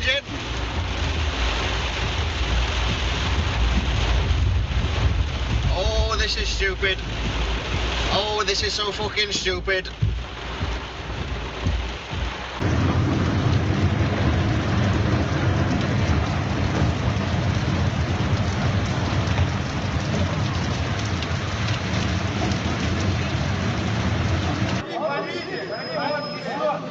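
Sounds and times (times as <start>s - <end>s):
deep rumble: 0.0s - 24.8s
heavy rain pouring: 0.0s - 26.9s.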